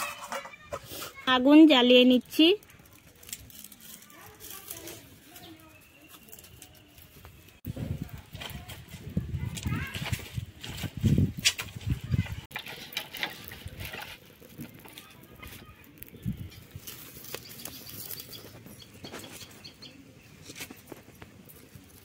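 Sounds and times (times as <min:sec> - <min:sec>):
leaves and straw crackling in fire: 0:00.0 - 0:22.0.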